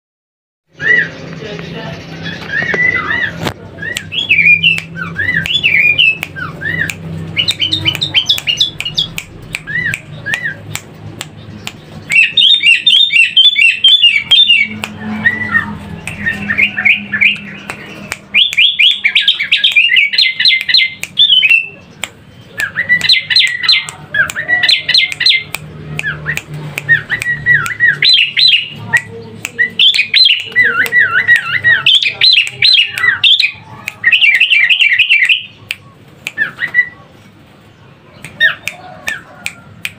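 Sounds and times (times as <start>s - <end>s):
bird chirping: 0.7s - 39.9s
sharp clicks: 2.4s - 36.8s.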